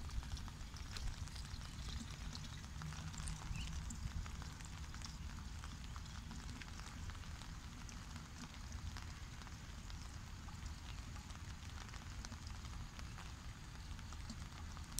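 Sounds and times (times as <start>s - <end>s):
light rain pattering: 0.0s - 14.9s.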